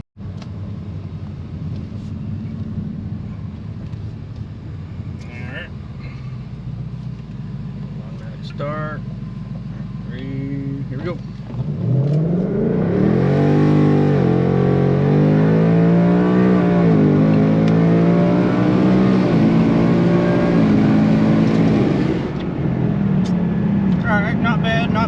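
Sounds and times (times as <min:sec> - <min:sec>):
car engine at full throttle: 0:00.2 - 0:25.0.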